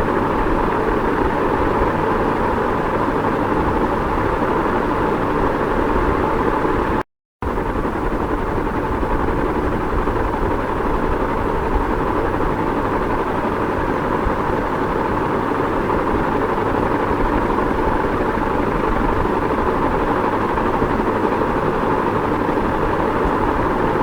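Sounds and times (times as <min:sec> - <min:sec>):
ceiling fan whooshing hum: 0:00.0 - 0:24.0.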